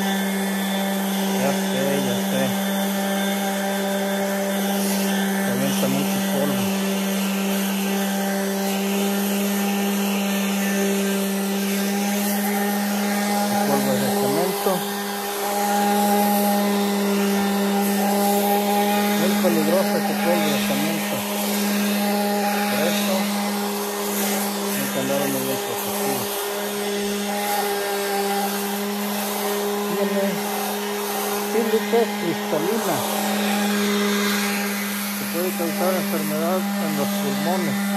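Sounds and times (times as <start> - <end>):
orbital sander motor hum: 0.0 - 37.9
sanding pad hissing on paint: 0.0 - 37.9.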